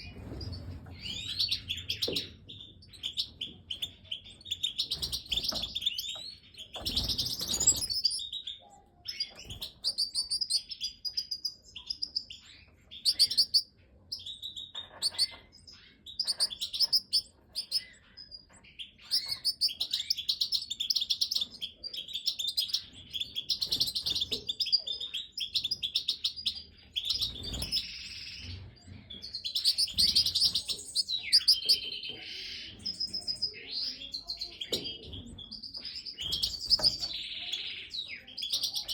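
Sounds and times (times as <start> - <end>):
birds twittering: 0.0 - 38.9.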